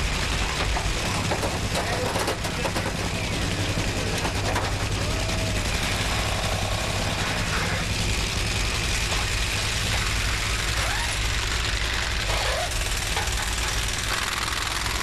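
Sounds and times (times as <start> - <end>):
drag racing engines idling: 0.0 - 15.0
racetrack background noise: 0.0 - 15.0.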